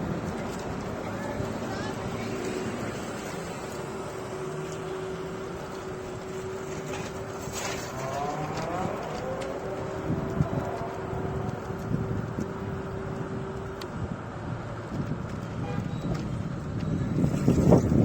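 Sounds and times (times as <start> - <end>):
electric scooter hum: 0.0 - 18.0
passing vehicle: 0.0 - 18.0
street traffic: 0.0 - 18.0.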